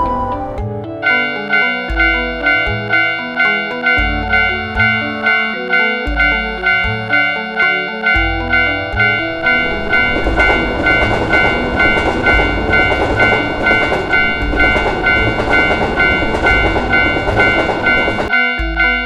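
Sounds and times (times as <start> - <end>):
passing train rumble: 0.0 - 18.9
railroad crossing bell ringing: 0.0 - 19.0.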